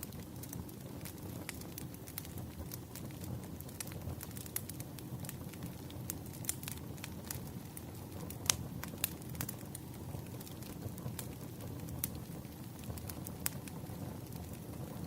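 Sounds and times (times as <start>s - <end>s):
firewood crackling and popping: 0.0s - 15.0s
wood fire burning: 0.0s - 15.0s.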